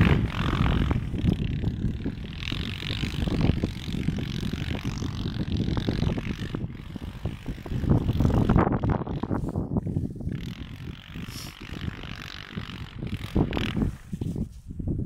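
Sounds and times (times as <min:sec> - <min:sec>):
distant quad bike engine: 0:00.0 - 0:14.6
wind buffeting microphone: 0:00.0 - 0:15.0.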